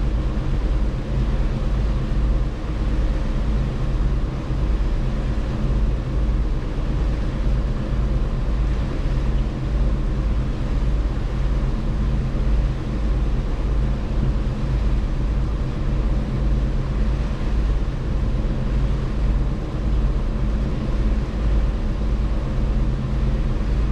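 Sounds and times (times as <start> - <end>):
ship engine hum: 0.0 - 23.9
water and wind noise: 0.0 - 23.9.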